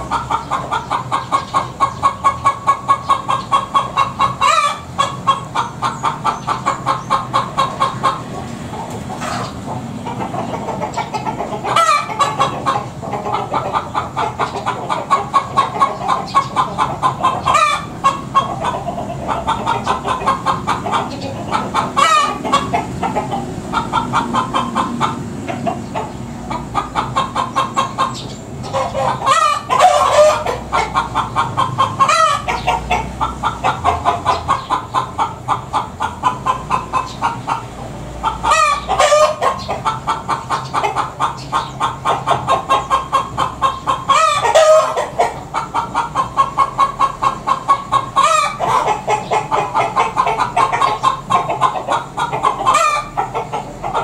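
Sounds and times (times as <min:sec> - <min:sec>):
chickens clucking: 0:00.0 - 0:54.0
hens squawking: 0:00.0 - 0:54.0.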